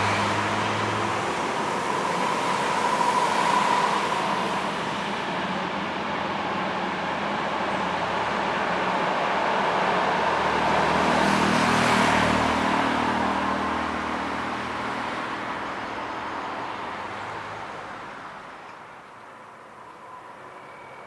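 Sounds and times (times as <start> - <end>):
passenger train passing: 0.0 - 21.0.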